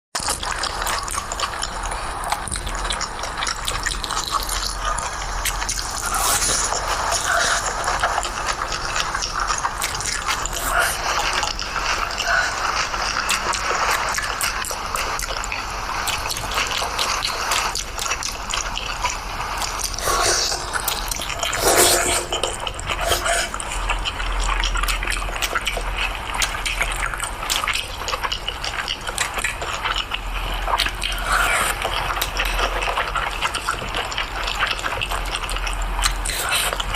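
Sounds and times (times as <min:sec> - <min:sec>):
wet chewing: 0:00.2 - 0:36.9.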